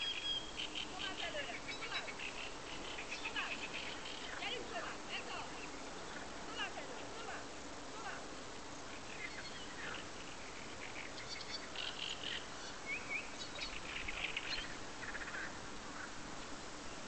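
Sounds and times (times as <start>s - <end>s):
small birds chirping and trilling: 0.0s - 16.2s
faint outdoor hiss: 0.0s - 17.0s.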